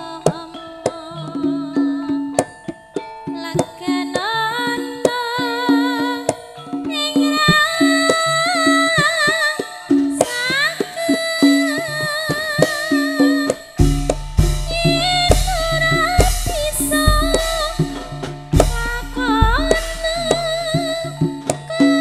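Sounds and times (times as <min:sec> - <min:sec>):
hand drum strokes: 0:00.0 - 0:22.0
woman singing wavering melody: 0:00.0 - 0:22.0.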